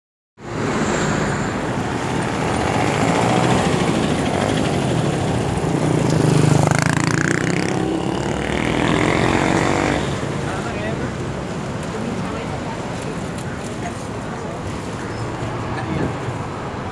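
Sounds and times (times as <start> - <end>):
bus engine passing: 0.4 - 16.9
traffic rumble and road noise: 0.4 - 16.9.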